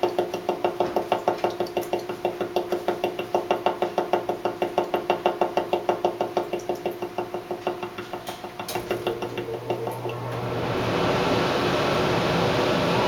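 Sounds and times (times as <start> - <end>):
air conditioner rapid knocking: 0.0 - 11.3.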